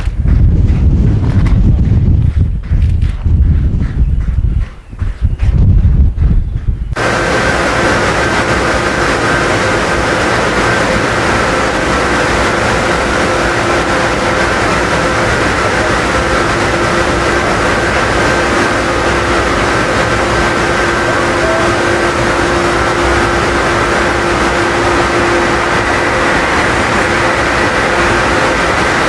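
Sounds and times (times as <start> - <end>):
train rushing noise: 0.0 - 29.0.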